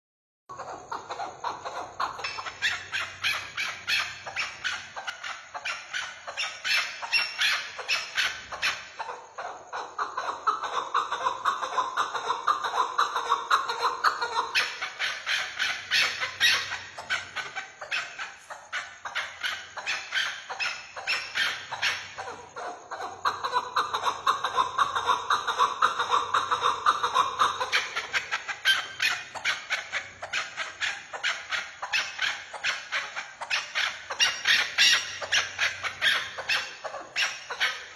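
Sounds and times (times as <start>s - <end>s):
partridge clucking calls: 0.5s - 37.9s.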